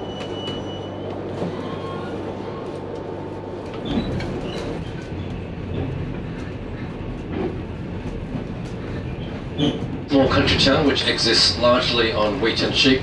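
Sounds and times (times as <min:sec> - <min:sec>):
steady train hum: 0:00.0 - 0:13.0
train carriage rumbling on track: 0:00.0 - 0:13.0.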